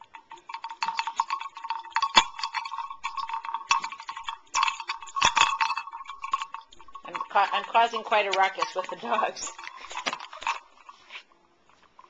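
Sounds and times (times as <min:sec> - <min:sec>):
wooden bell clappers clacking: 0:00.0 - 0:11.2.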